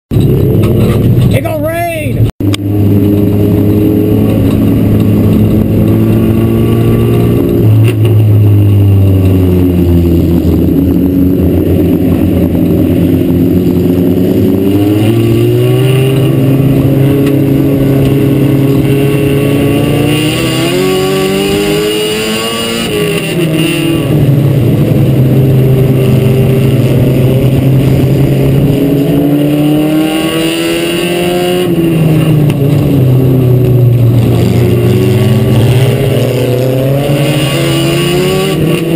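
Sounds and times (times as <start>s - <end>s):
race car engine running hard: 2.4s - 38.9s.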